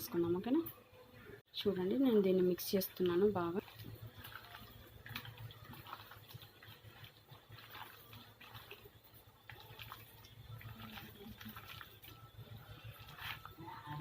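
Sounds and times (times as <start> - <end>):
wet squelching of chicken in marinade: 2.6 - 14.0.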